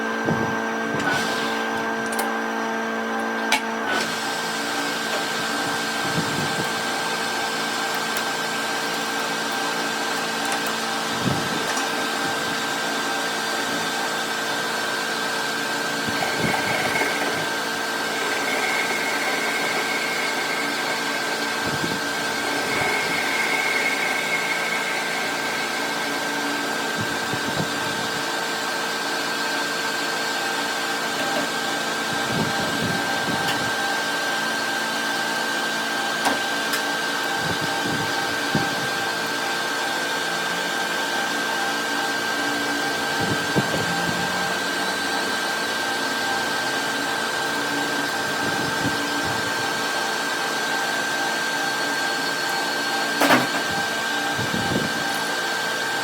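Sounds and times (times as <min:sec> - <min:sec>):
electric motor humming: 0:00.0 - 0:56.0.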